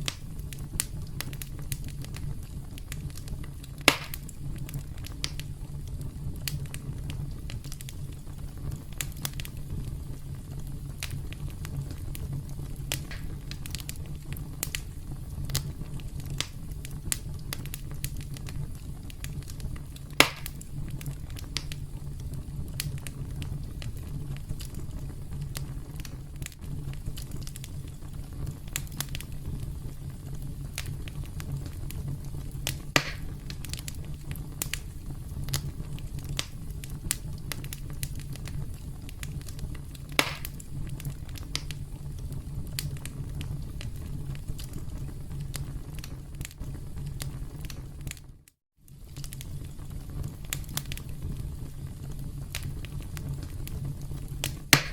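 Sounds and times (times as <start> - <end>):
campfire crackling: 0.0 - 54.9
loud fire pops: 0.0 - 54.9.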